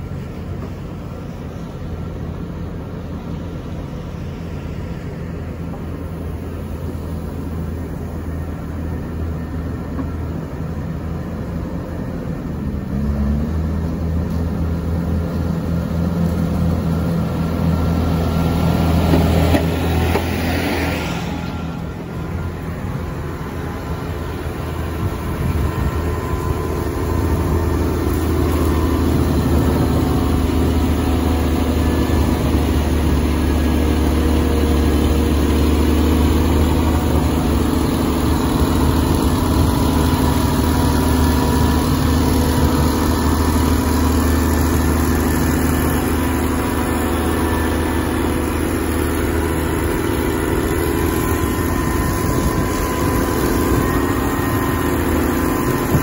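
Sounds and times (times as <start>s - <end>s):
grader diesel engine running: 0.0s - 56.0s.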